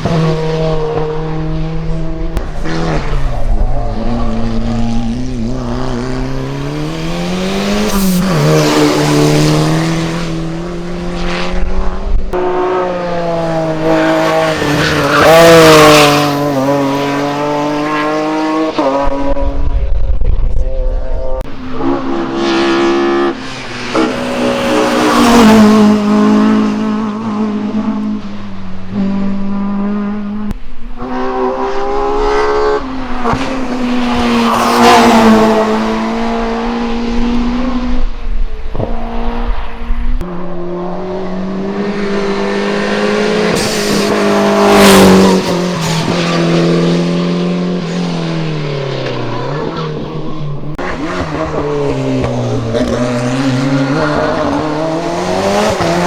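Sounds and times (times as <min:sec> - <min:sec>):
racing cars passing at full throttle: 0:00.0 - 0:56.0.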